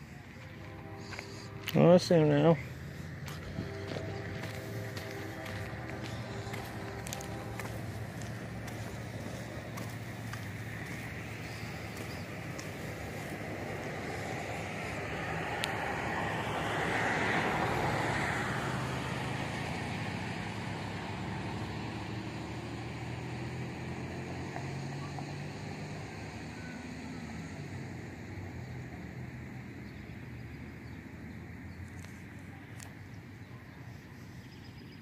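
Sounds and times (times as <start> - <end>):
low engine hum: 0.0 - 35.0
vehicle passing: 0.0 - 35.0.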